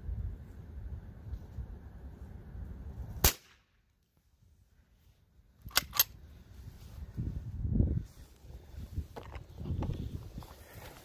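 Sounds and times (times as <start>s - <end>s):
low rustling noise: 0.0s - 3.2s, 4.1s - 11.0s.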